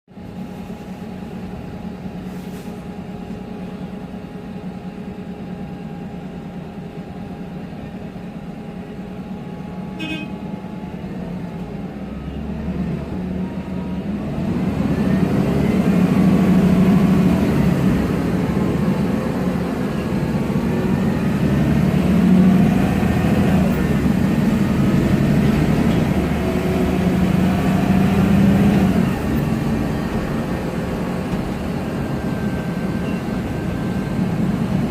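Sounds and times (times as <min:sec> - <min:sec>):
bus engine idling and accelerating: 0:00.1 - 0:34.9.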